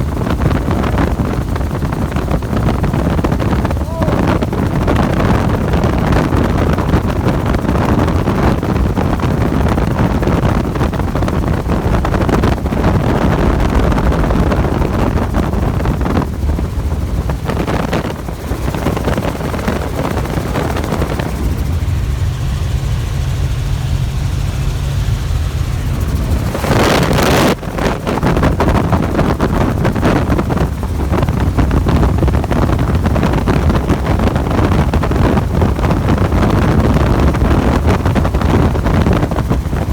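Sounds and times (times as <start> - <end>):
helicopter rotor and engine: 0.0 - 39.9
wind buffeting microphone: 0.0 - 39.9.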